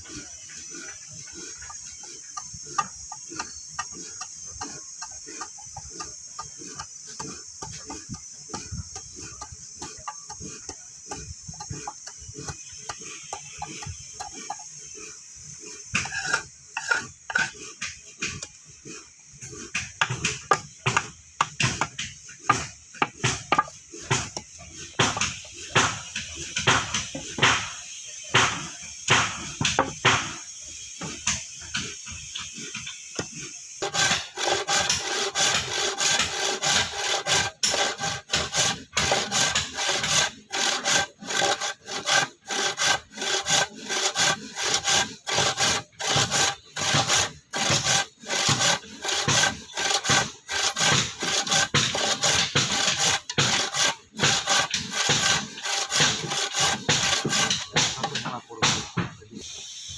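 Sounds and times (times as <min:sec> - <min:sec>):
hand saw cutting wood: 0:00.0 - 0:27.8, 0:28.4 - 0:30.4, 0:31.1 - 0:59.6.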